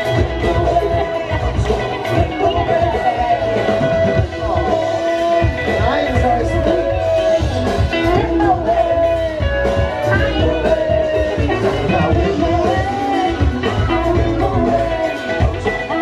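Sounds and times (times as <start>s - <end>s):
electric guitar: 0.0s - 16.0s
person singing: 0.0s - 16.0s
steady drum beat: 0.0s - 16.0s.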